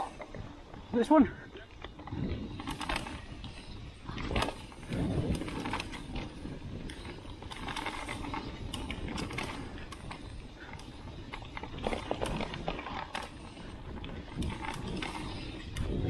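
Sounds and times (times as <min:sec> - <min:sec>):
bike clicks and rattles: 0:00.0 - 0:16.0
bike tyre noise on dirt: 0:00.0 - 0:16.0
wind rumble on microphone: 0:00.0 - 0:16.0.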